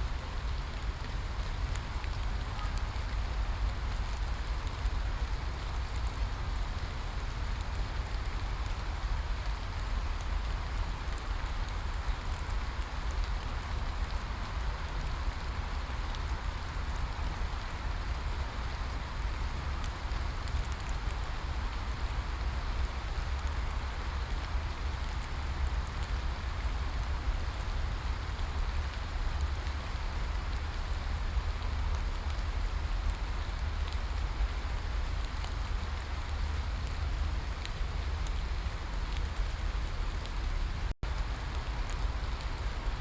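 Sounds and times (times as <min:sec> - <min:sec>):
rain falling: 0:00.0 - 0:43.0
raindrops ticking: 0:00.3 - 0:43.0.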